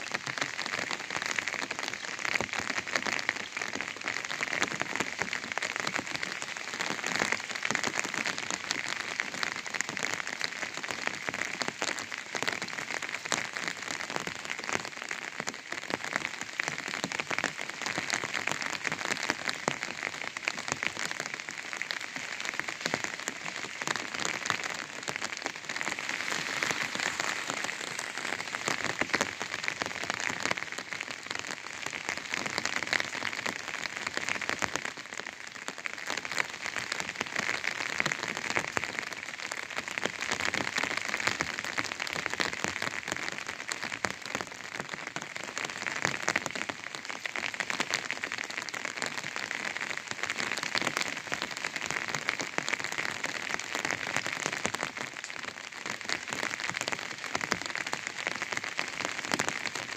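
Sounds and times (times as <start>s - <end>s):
rain on an umbrella: 0.0s - 59.9s.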